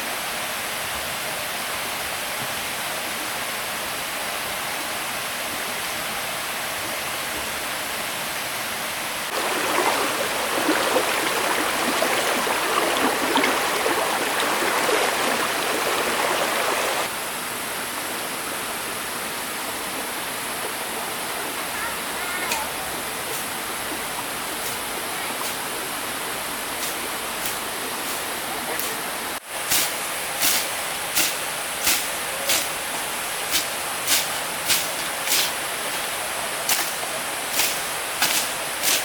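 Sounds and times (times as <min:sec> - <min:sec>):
stream water rushing: 0:00.0 - 0:39.0.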